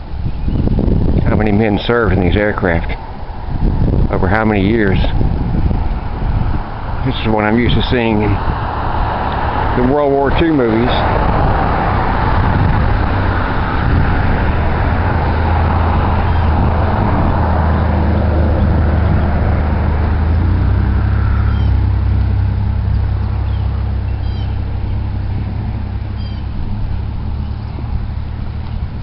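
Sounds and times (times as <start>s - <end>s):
low engine rumble: 0.0s - 29.0s.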